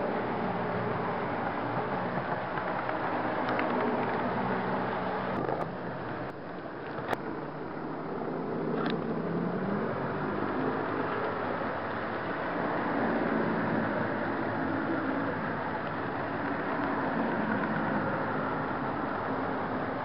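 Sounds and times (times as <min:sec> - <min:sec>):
model train wheels and motor rumbling: 0:00.0 - 0:20.0.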